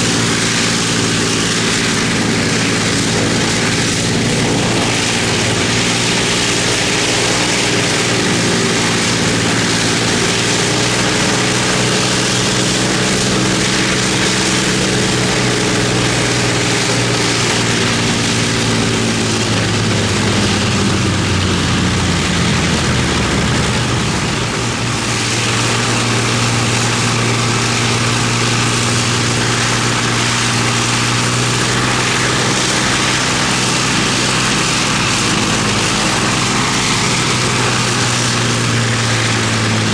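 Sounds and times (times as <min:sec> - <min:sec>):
propeller aircraft engines droning: 0:00.0 - 0:39.9.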